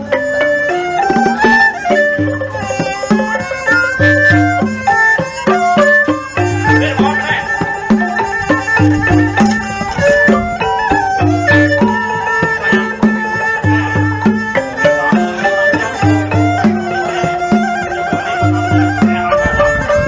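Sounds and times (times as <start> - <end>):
low drum beat: 0.0 - 20.0
melody of short held notes: 0.0 - 20.0.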